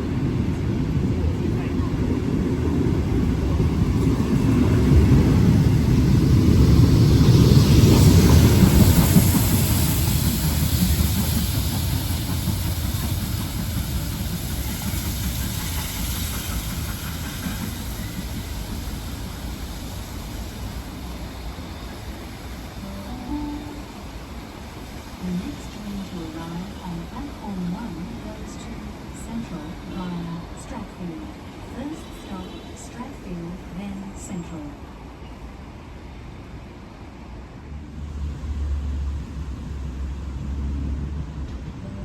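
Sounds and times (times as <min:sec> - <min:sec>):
train rumbling past: 0:00.0 - 0:42.0.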